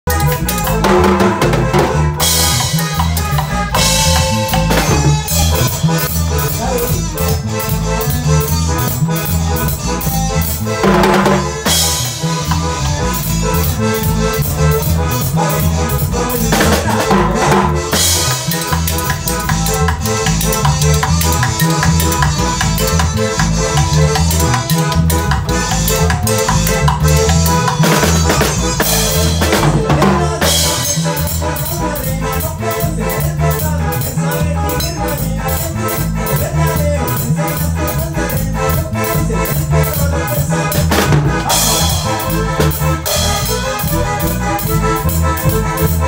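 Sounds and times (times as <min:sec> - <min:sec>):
live band playing latin tune: 0:00.0 - 0:46.0.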